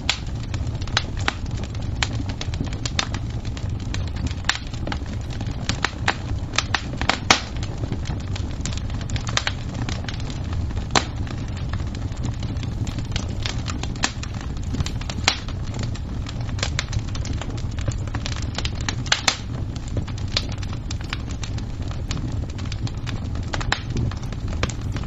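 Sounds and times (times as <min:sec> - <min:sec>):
low fire rumble: 0:00.0 - 0:25.0
wood fire crackling and popping: 0:00.0 - 0:25.0.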